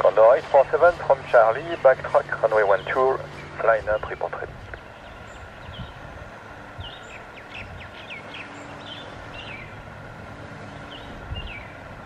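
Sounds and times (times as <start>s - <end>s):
faint hum: 0.0s - 12.0s
outdoor background hiss: 0.0s - 12.0s
small birds chirping: 0.6s - 12.0s.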